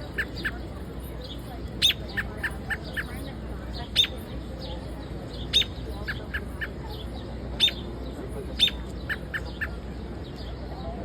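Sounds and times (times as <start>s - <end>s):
birds chipping: 0.0s - 11.0s.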